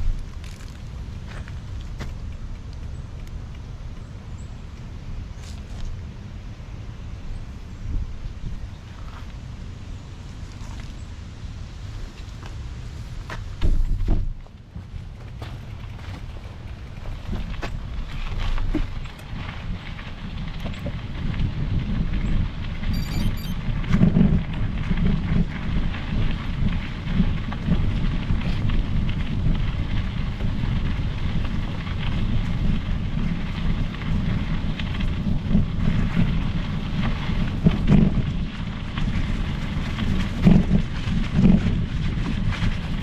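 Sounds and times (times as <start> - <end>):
bike tyres rolling over trail: 0.0 - 43.0
wind noise on microphone: 0.0 - 43.0.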